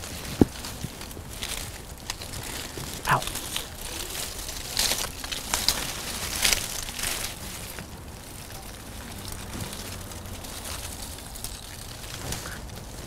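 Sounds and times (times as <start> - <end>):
shrub leaves rustling and crackling: 0.0 - 13.0.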